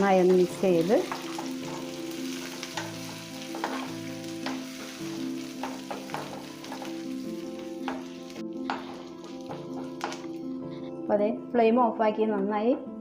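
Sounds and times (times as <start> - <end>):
spices sizzling in hot oil: 0.0 - 10.6.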